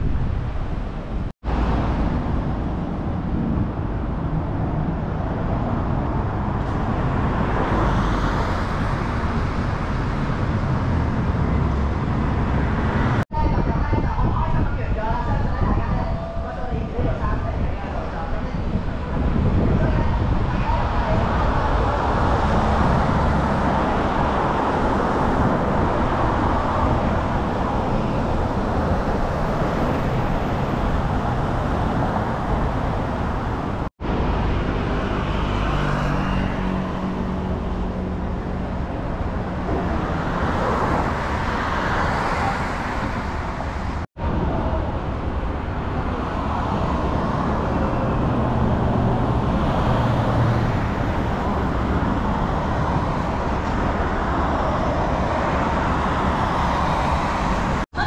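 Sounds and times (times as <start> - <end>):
city road traffic: 0.0 - 58.0.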